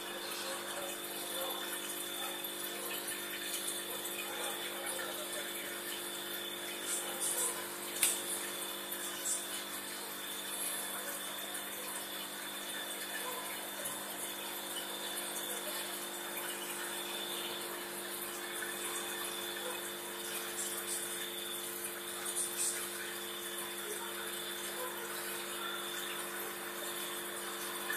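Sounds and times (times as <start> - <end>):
aquarium pump hum: 0.0 - 27.9.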